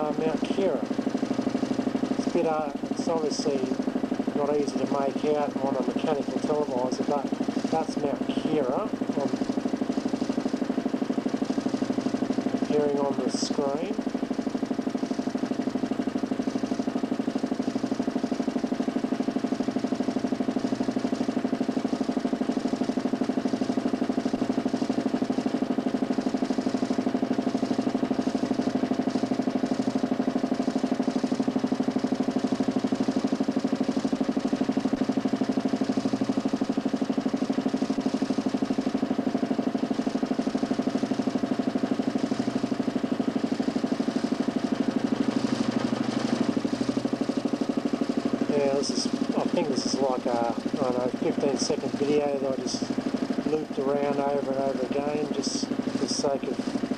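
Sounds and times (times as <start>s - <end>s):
motor humming with fast pulsing: 0.0s - 56.9s.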